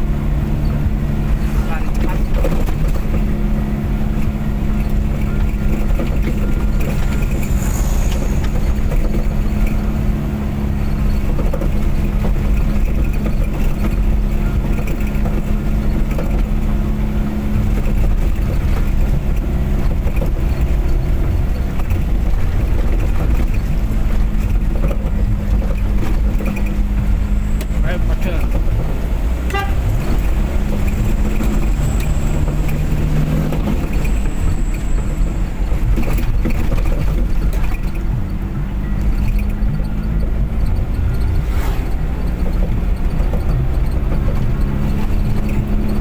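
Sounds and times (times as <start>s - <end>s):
road rumble: 0.0s - 46.0s
vehicle engine drone: 0.0s - 46.0s.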